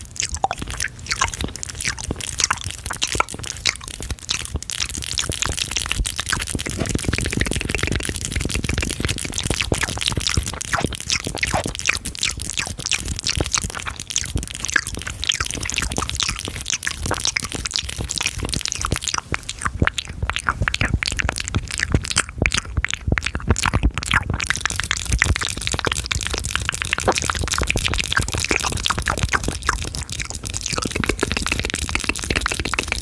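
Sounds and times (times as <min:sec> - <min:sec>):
tongue clicks and lip smacks: 0:00.0 - 0:33.0.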